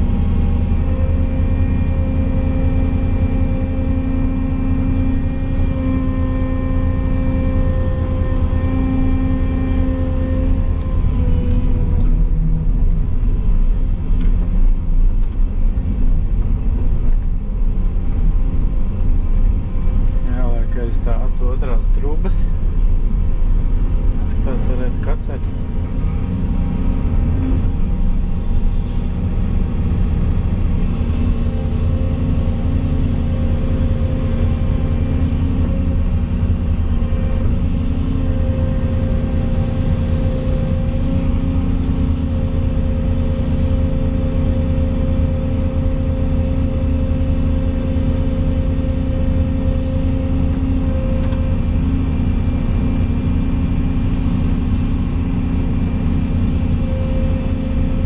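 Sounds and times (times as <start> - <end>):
excavator engine hum: 0.0 - 58.0.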